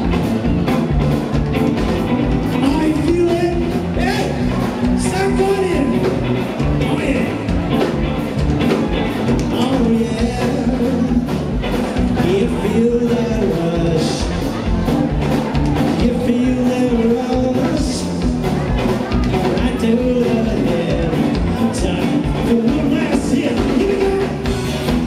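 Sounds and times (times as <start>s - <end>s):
bass guitar: 0.0s - 25.0s
drum kit: 0.0s - 25.0s
electric guitars: 0.0s - 25.0s
sliding lead melody: 0.0s - 25.0s.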